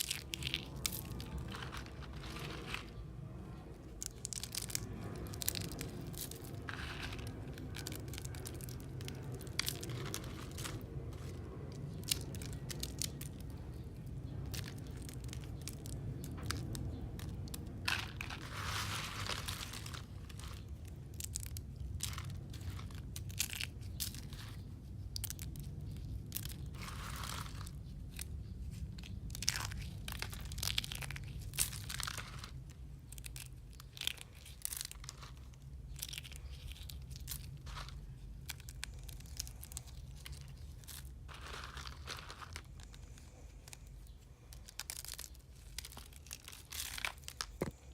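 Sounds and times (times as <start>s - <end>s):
soap crunching and crumbling: 0.0s - 47.9s.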